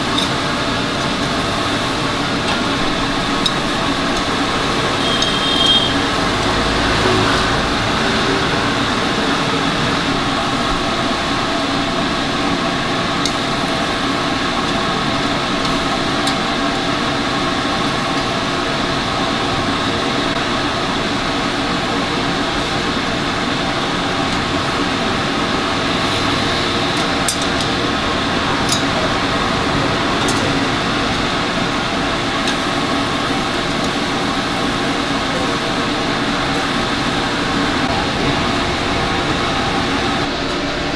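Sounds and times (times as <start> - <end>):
exhaust fan drone: 0.0 - 40.9.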